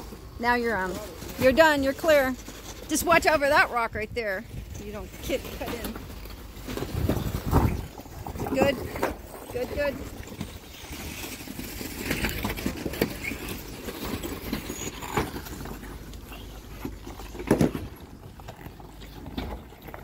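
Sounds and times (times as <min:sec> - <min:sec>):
low engine rumble: 0:00.0 - 0:20.0
tyres crunching on gravel: 0:00.0 - 0:20.0.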